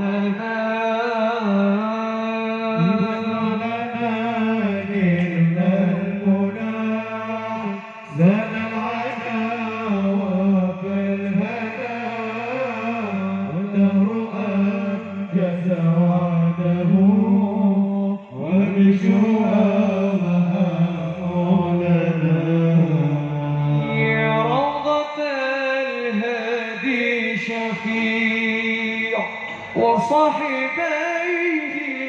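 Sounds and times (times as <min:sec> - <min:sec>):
men singing melismatic religious song: 0:00.0 - 0:32.0.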